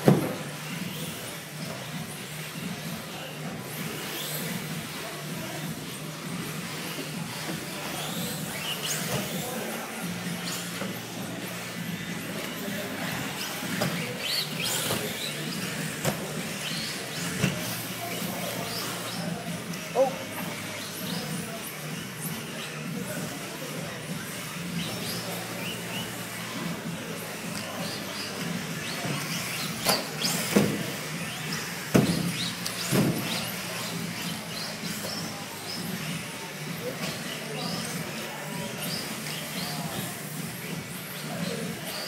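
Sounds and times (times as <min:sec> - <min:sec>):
rc car motors whining: 0:00.0 - 0:42.0.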